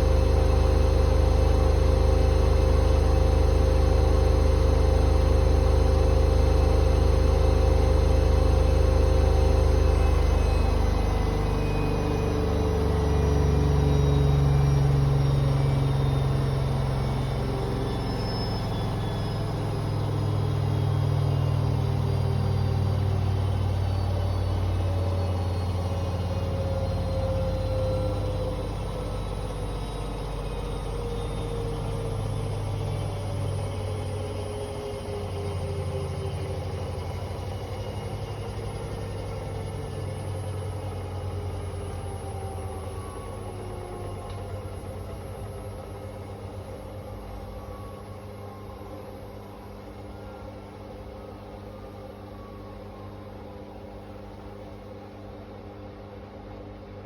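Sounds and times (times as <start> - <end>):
washing machine spin winding down: 0.0 - 57.0.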